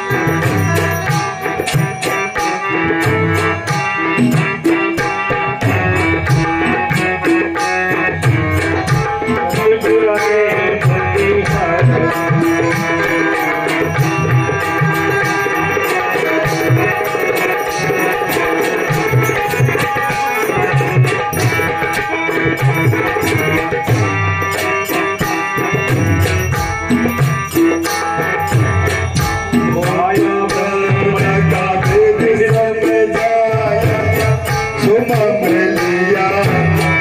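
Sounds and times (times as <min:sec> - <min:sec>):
hand drum rhythm: 0:00.0 - 0:37.0
harmonium chords: 0:00.0 - 0:37.0.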